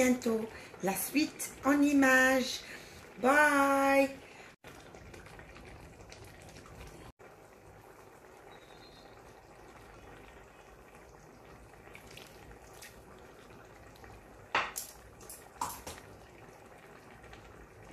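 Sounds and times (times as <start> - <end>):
stew bubbling: 0.0 - 17.9.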